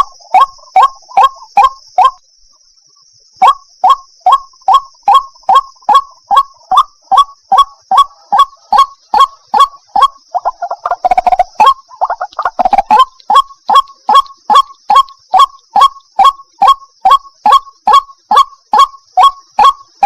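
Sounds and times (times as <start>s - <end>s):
waterhen croaking call: 0.0s - 2.2s, 3.4s - 20.0s.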